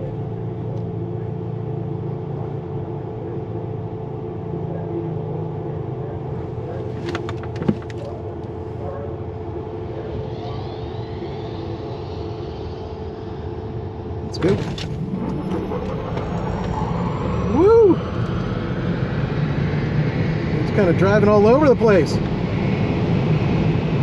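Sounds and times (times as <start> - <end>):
faint rising whine: 0.0 - 24.0
vehicles rumbling: 0.0 - 24.0.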